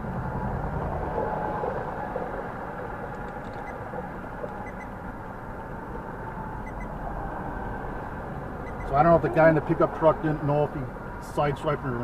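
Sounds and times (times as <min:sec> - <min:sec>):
traffic rumble: 0:00.0 - 0:12.0
vehicle engines: 0:00.0 - 0:12.0.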